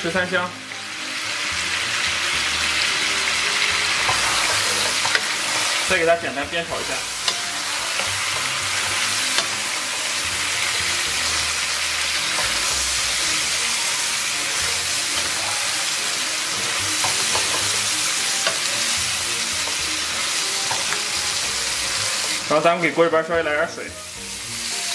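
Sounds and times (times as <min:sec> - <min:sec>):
ribs sizzling in a wok: 0:00.0 - 0:24.9.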